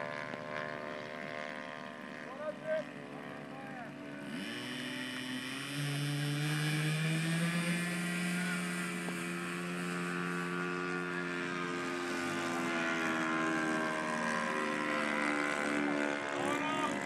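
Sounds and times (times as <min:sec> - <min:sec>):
model airplane motor throttling up: 0:00.0 - 0:17.0.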